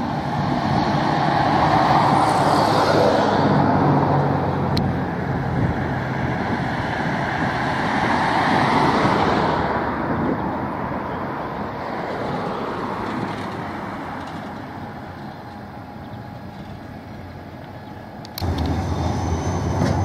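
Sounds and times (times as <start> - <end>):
tram wheels rumbling on rail: 0.0 - 10.6, 11.5 - 20.0.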